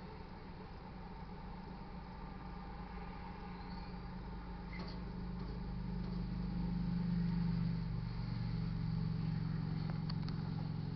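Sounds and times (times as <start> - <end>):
vehicle engine humming: 0.0 - 10.9.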